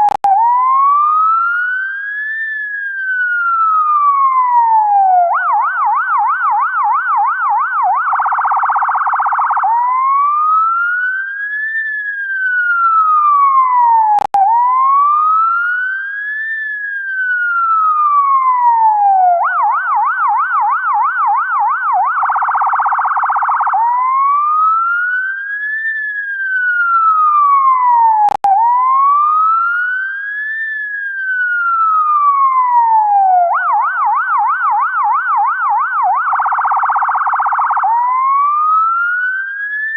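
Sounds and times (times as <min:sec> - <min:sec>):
ambulance siren: 0:00.0 - 0:39.9.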